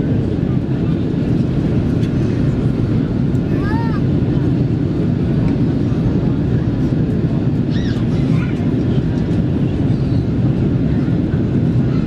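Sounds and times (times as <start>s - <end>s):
airliner cabin engine rumble: 0.0s - 12.0s
faint voices: 0.0s - 12.0s.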